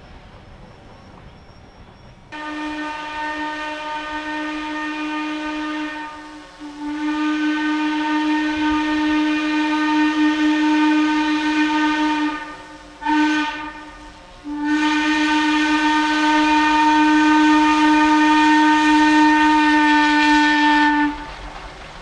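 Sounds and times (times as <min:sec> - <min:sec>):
steam locomotive whistle: 0:02.3 - 0:21.5.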